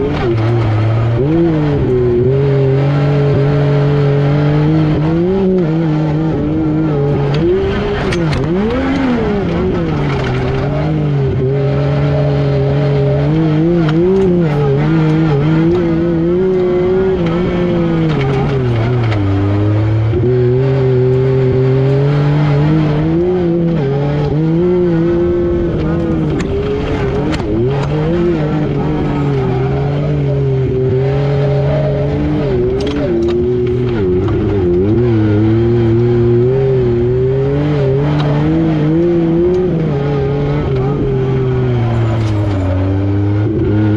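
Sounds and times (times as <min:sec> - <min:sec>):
engine running hard: 0:00.0 - 0:43.9.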